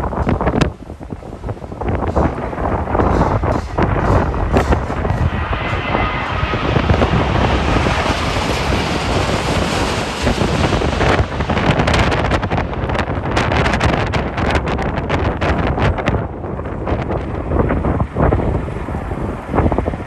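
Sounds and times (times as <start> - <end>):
gusty wind buffeting microphone: 0.0 - 20.0.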